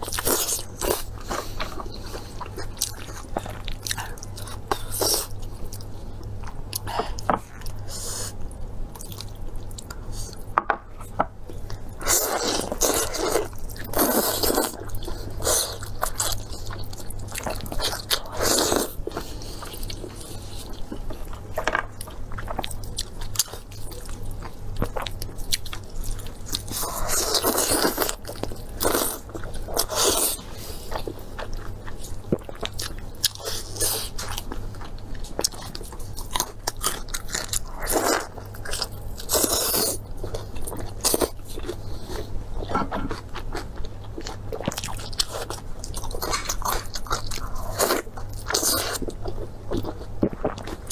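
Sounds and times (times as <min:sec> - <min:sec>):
person chewing crunchy food: 0:00.0 - 0:50.9
steady low hum: 0:00.0 - 0:50.9.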